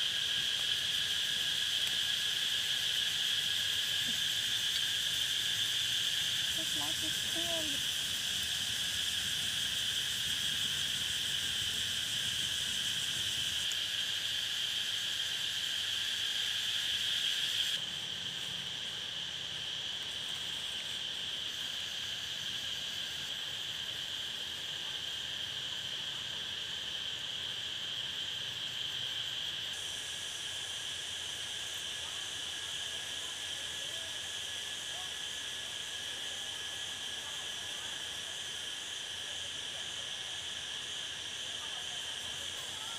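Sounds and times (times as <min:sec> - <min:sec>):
insects buzzing: 0:00.0 - 0:42.9.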